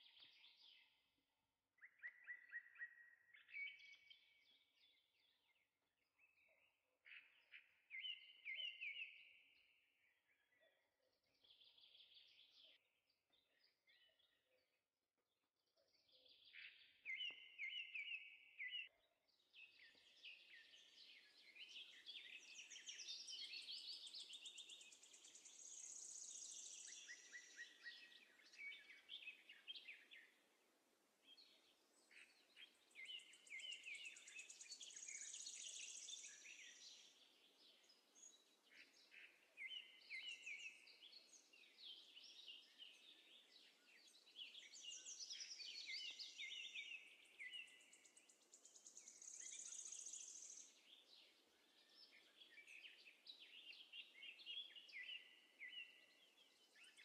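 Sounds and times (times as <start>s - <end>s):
faint birdsong: 0.0s - 57.0s.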